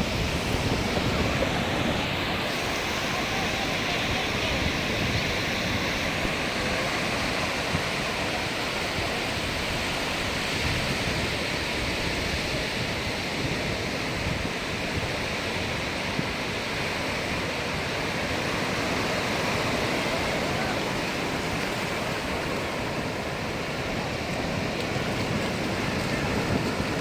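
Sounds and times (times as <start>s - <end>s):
sea surf breaking: 0.0s - 27.0s
wind on microphone: 0.0s - 27.0s.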